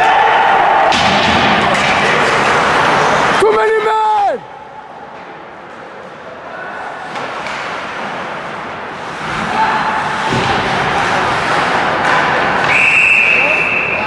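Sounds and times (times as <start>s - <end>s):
ice rink sounds: 0.0s - 14.0s
players and spectators voices: 0.0s - 14.0s.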